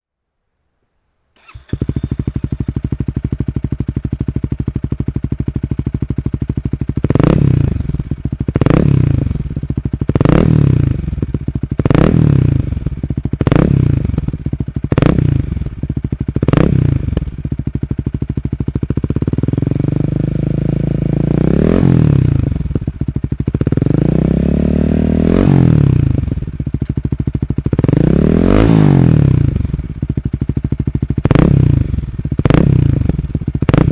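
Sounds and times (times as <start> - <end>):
motorcycle engine idling and revving: 1.4 - 33.9.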